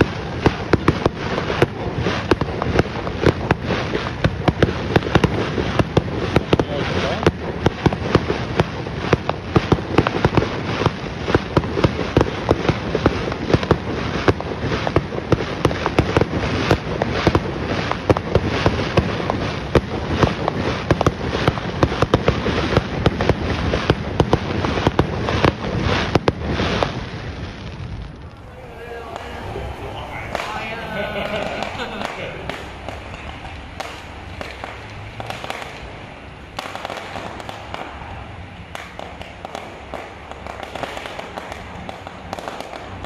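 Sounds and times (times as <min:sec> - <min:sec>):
firework bangs: 0:00.0 - 0:43.0
rumble of firework bursts: 0:00.0 - 0:43.0.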